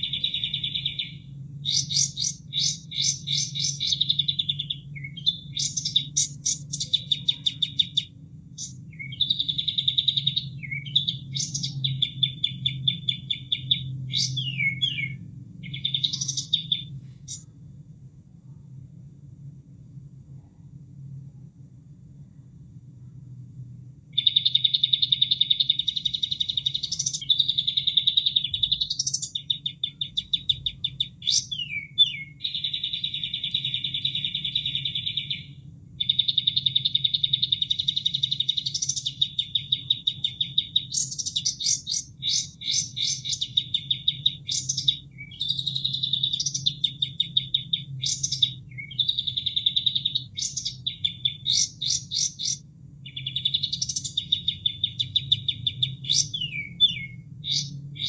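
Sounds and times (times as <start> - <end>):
bird song with trills: 0.0 - 17.5, 24.1 - 58.0.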